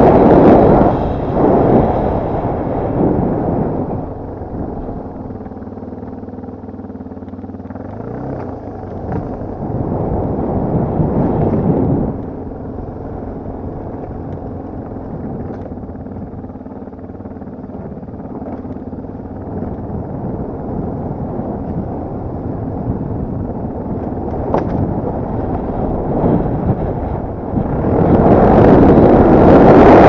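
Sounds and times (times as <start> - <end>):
dirt bike engine at low revs: 0.0 - 30.0.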